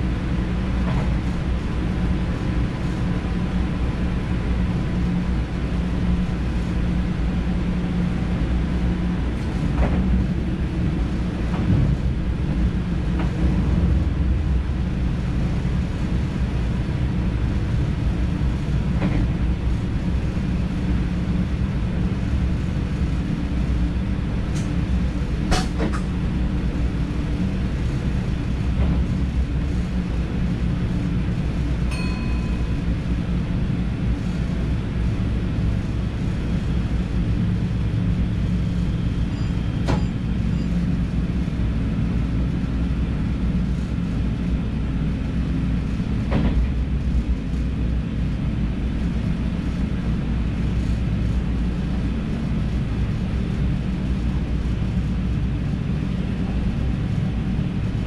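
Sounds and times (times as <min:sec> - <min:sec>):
electric train rumbling on track: 0:00.0 - 0:58.0.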